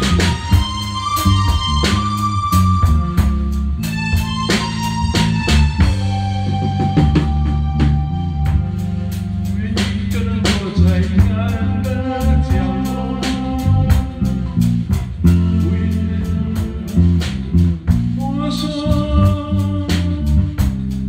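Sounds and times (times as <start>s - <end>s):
held higher notes: 0.0s - 19.8s
bass notes: 0.0s - 21.0s
drum kit beat: 0.0s - 21.0s.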